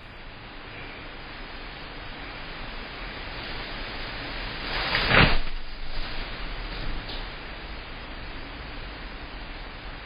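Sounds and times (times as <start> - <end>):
strong wind and rain: 0.0 - 10.0.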